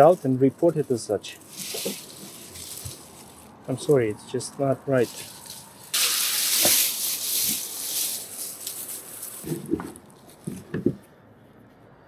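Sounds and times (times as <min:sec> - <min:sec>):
rustling and crackling of garden waste: 0:00.0 - 0:11.1.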